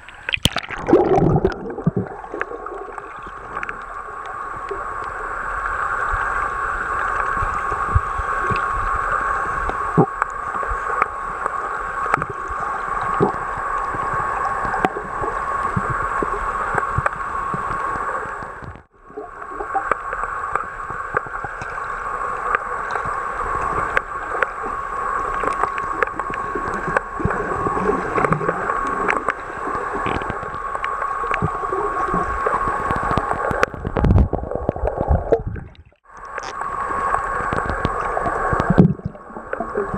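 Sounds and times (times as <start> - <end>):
muffled underwater water wash: 0.0 - 39.9
faint steady whine: 1.2 - 39.9.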